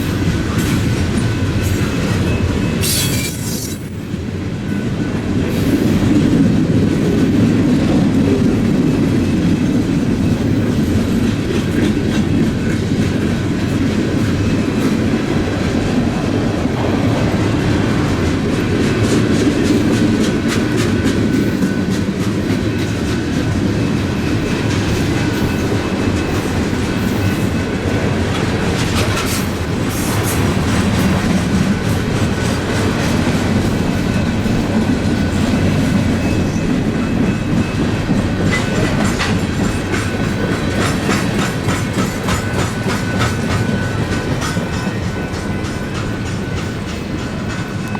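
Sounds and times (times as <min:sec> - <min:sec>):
train wheels rumbling on rail: 0:00.0 - 0:47.9
wheels clicking over rail joints: 0:06.3 - 0:47.9.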